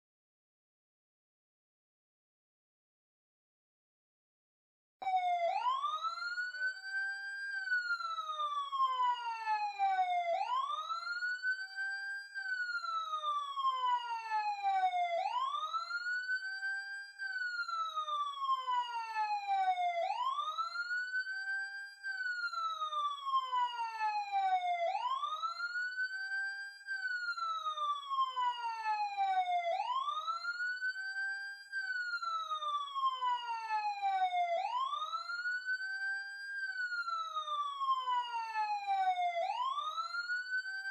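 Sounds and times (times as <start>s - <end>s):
police siren wailing: 5.0s - 40.9s.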